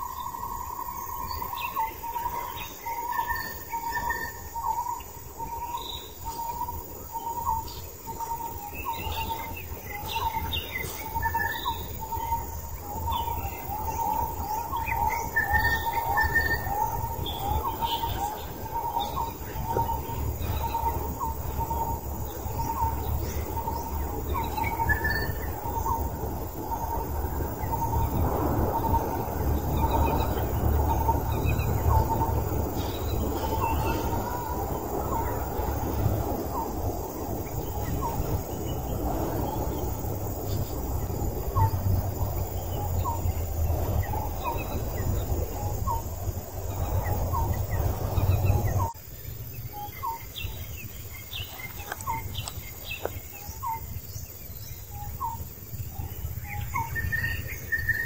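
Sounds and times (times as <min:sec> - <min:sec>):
bird chirping: 0:00.0 - 0:58.0
low rushing background: 0:04.4 - 0:58.0.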